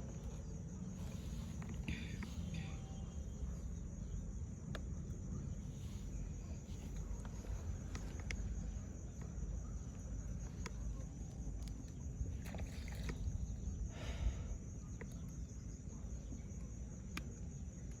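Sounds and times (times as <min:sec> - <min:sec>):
constant low rumble: 0:00.0 - 0:18.0
insects chirring: 0:00.0 - 0:18.0.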